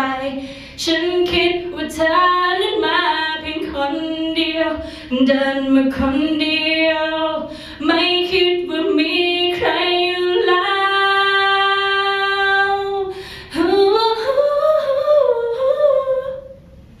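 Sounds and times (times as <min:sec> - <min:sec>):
woman singing unaccompanied: 0:00.0 - 0:16.6.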